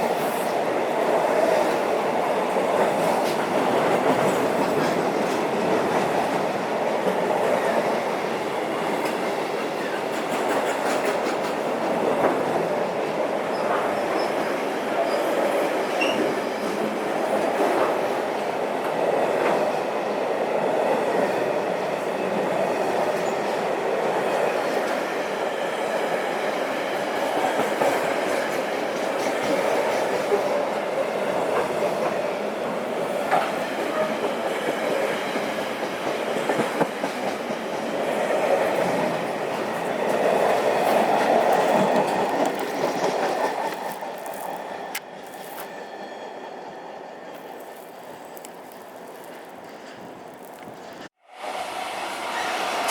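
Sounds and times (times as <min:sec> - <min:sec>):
train wheels rolling on rails: 0:00.0 - 0:52.9.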